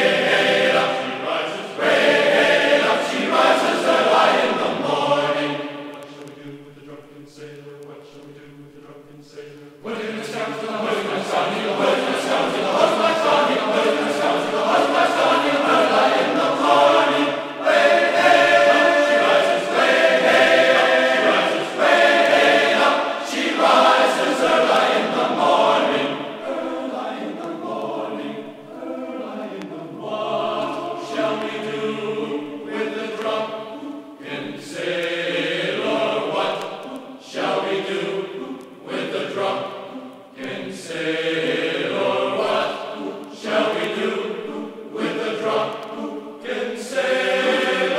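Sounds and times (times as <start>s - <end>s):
choir singing slow phrases: 0.0s - 47.9s.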